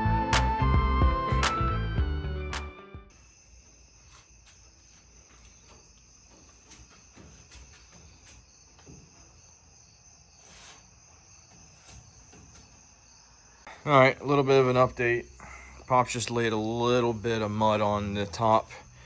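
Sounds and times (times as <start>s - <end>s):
crickets chirping: 3.0s - 19.0s.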